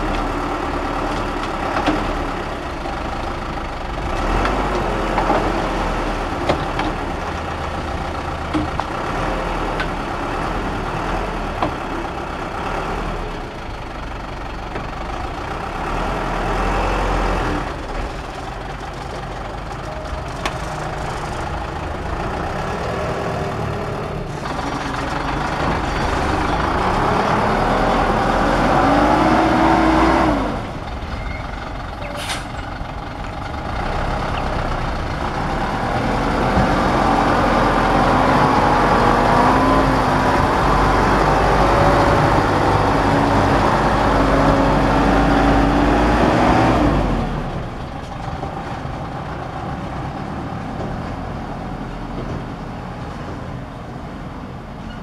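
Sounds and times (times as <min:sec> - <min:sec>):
diesel truck engine revving: 0:00.0 - 0:54.8.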